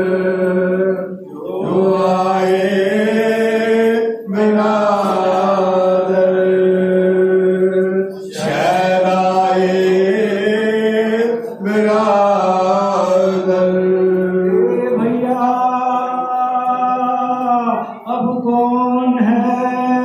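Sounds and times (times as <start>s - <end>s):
men chanting through microphones: 0.0s - 20.0s.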